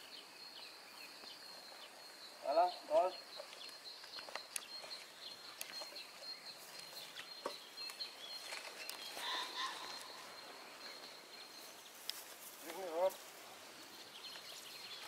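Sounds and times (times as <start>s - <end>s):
faint bird chirps: 0.0s - 13.1s.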